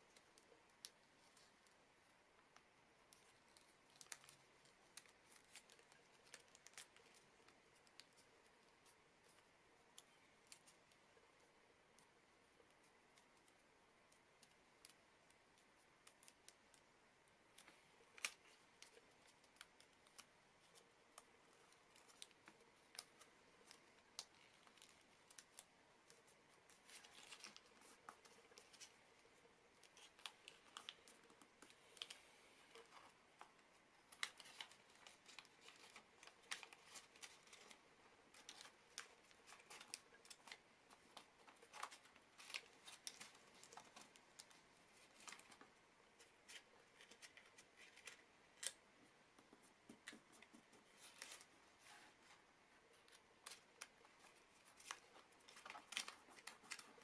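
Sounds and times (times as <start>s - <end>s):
paper folding and crinkling: 0.0s - 57.0s.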